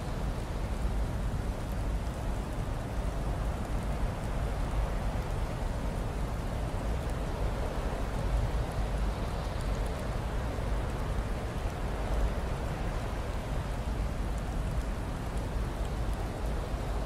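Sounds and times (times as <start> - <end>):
faint ticks: 0.2 - 17.0.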